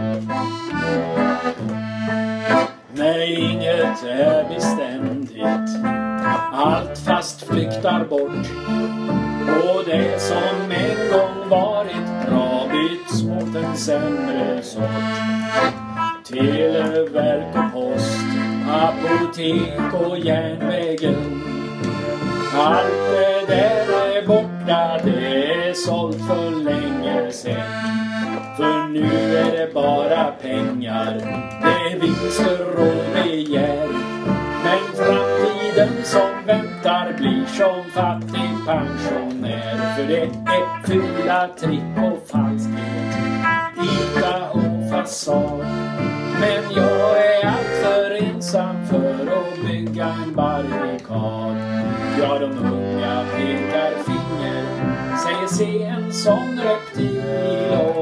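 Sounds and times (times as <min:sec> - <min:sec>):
button accordion: 0:00.0 - 0:58.0
electric guitar: 0:00.0 - 0:58.0
man singing: 0:02.5 - 0:15.2, 0:16.2 - 0:58.0.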